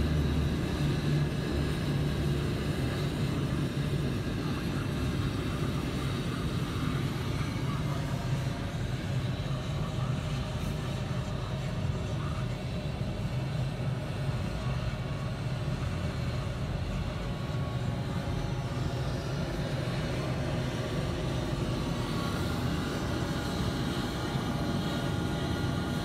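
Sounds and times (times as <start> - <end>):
helicopter rotors idling: 0.0 - 26.0.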